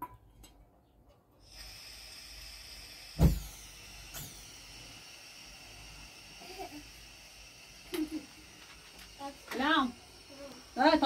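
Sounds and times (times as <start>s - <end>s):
gas burner hissing: 1.4s - 11.0s
gas igniting with low pop: 1.4s - 11.0s.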